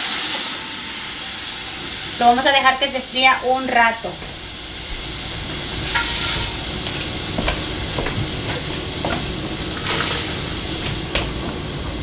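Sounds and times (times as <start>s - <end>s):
sauce sizzling in hot oil: 0.0s - 11.1s.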